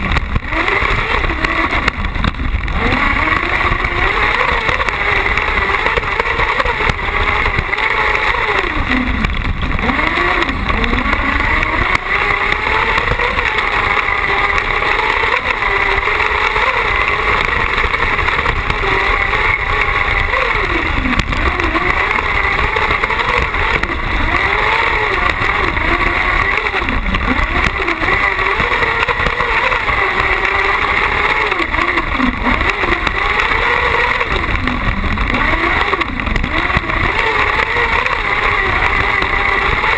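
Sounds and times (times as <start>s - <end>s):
buggy engine revving: 0.0s - 39.9s
tyres on dirt track: 0.0s - 39.9s
wind rumble: 0.0s - 39.9s.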